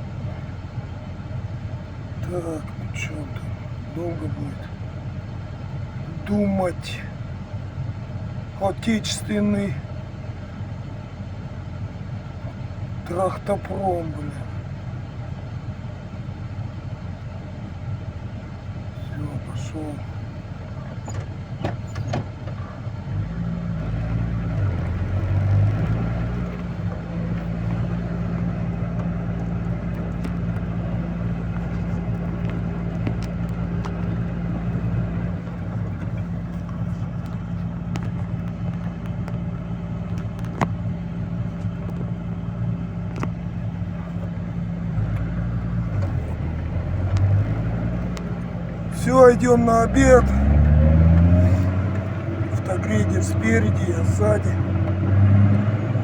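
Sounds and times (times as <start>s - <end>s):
heavy vehicle engine under load: 0.0s - 56.0s.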